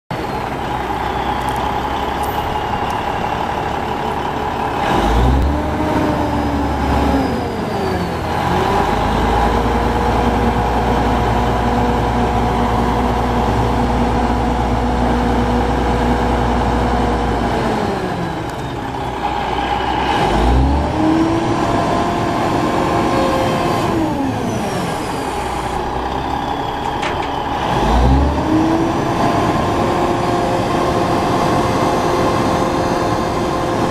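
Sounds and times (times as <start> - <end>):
diesel truck engine revving: 0.1 - 33.9.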